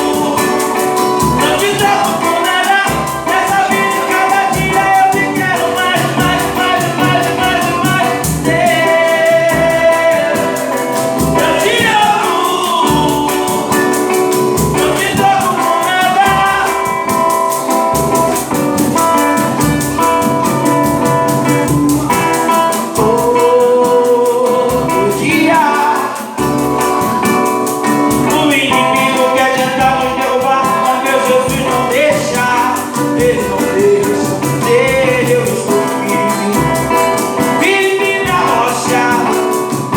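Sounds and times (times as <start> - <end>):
guitar: 0.0 - 39.9
person singing: 0.0 - 39.9
steady beat: 0.0 - 39.9.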